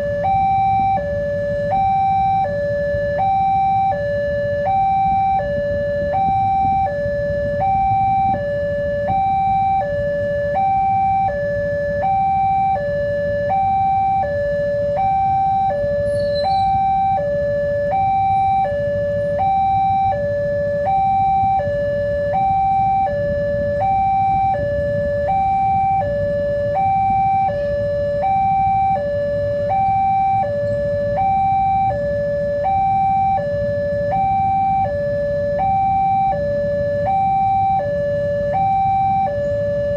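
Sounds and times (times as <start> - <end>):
level crossing two-tone alarm: 0.0 - 39.9
low steady rumble: 0.0 - 39.9.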